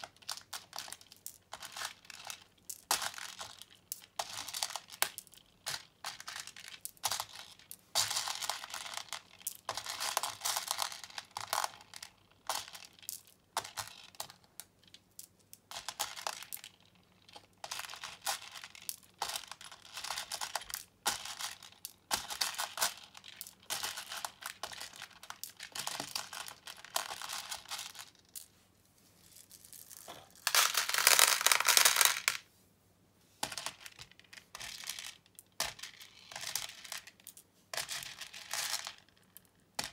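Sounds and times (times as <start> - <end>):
plastic beads rattling: 0.0 - 28.5, 29.2 - 32.4, 33.4 - 39.9.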